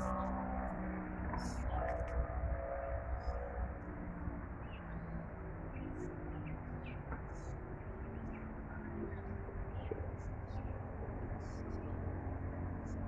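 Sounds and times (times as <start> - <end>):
city traffic hum: 0.0 - 13.0.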